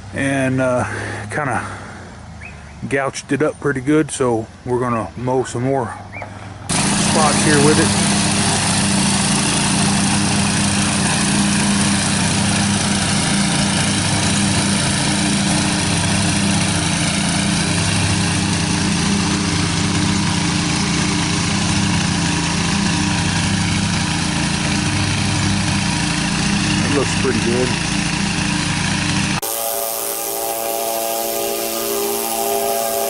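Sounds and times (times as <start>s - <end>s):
riding lawn mower engine: 0.0s - 33.0s.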